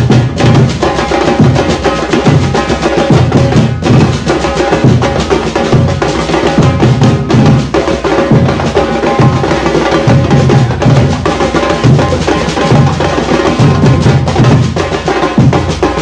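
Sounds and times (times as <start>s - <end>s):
bass drum beating: 0.0s - 15.8s
music with drums and percussion: 0.0s - 16.0s.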